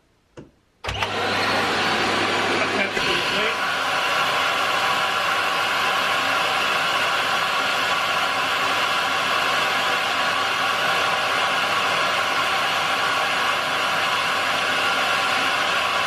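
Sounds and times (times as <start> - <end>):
vacuum cleaner running: 0.8 - 16.0.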